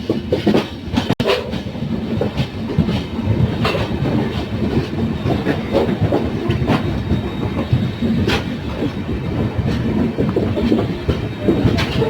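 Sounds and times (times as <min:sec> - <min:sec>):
train wheels rumbling: 0:00.0 - 0:12.0
wheels clicking over rail joints: 0:00.0 - 0:12.0.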